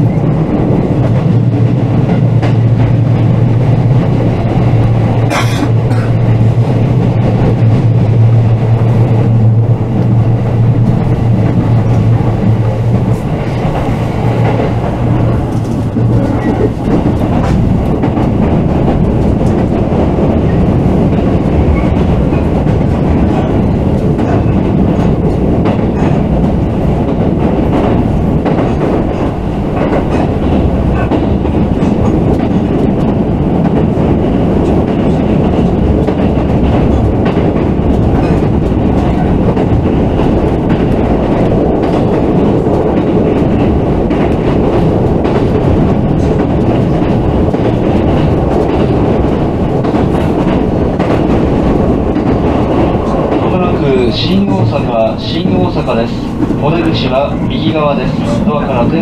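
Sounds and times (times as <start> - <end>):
train wheels and motors rumbling: 0.0 - 59.0.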